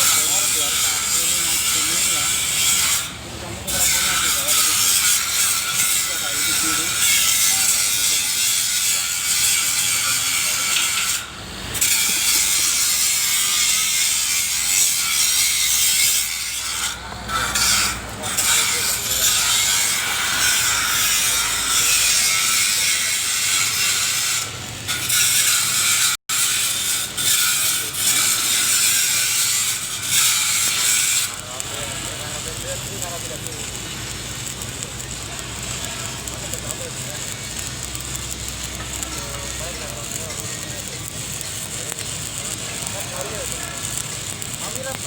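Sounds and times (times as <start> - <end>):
arc welding crackling hiss: 0.0 - 45.0.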